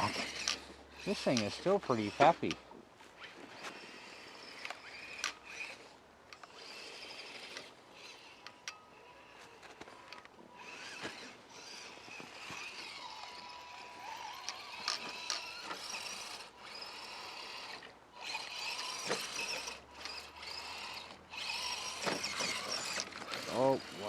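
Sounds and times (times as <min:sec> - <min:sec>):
electric motor and gears whining: 0:00.0 - 0:24.0.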